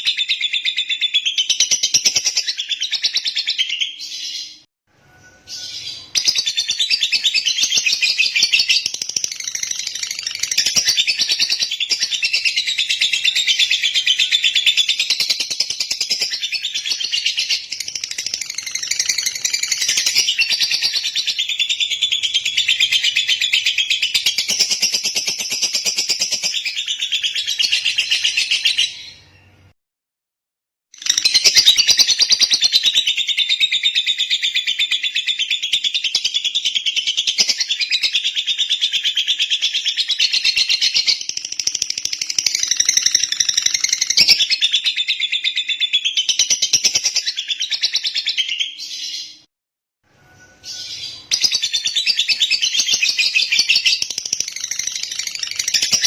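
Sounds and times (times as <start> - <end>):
bird chattering song: 5.4 - 29.6, 31.0 - 49.5, 50.6 - 56.0.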